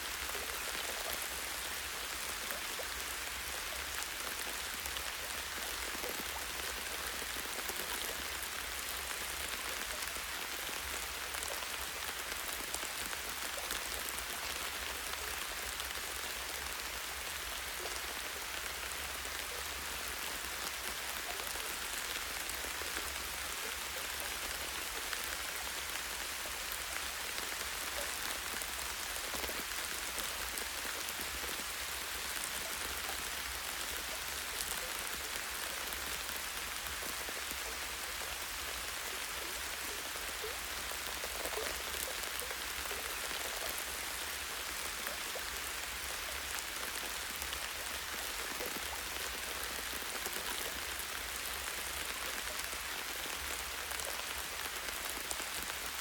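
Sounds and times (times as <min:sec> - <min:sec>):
light rain on leaves: 0:00.0 - 0:56.0.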